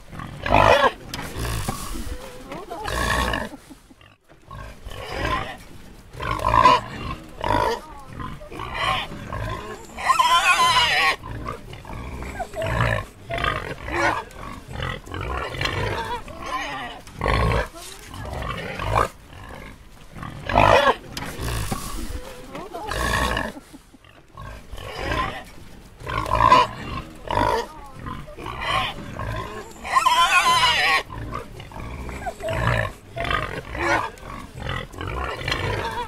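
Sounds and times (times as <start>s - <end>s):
pig grunting: 0.0s - 36.0s.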